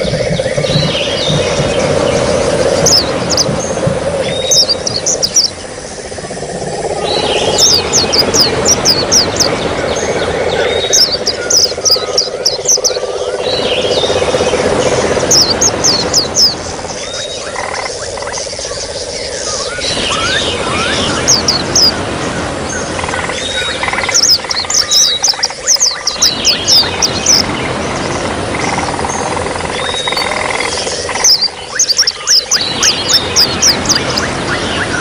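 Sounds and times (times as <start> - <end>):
birds chirping: 0.0 - 35.0
insect-like drone: 0.0 - 35.0
trickling water: 0.0 - 35.0.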